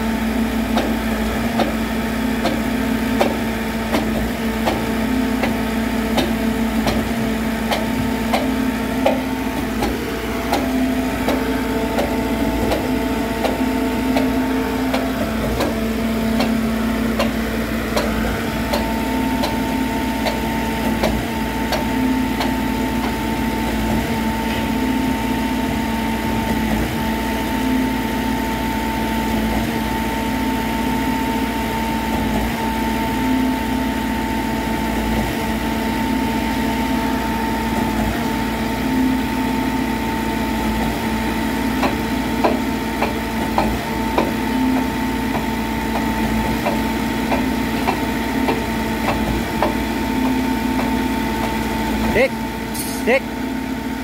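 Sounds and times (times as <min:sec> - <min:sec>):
concrete pump whine and hum: 0:00.0 - 0:54.0.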